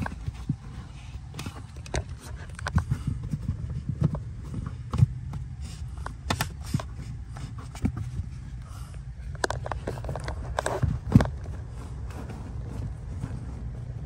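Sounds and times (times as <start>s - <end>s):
hands clicking and rubbing cable: 0.0s - 14.0s
low steady hum: 0.0s - 14.0s.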